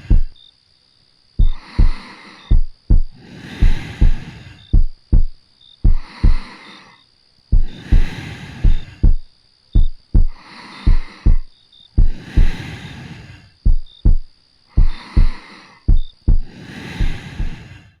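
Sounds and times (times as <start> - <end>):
heartbeat thumps: 0.0 - 0.4, 1.4 - 6.5, 7.5 - 12.6, 13.6 - 17.6
soft slow breathing: 0.0 - 0.4, 1.4 - 18.0.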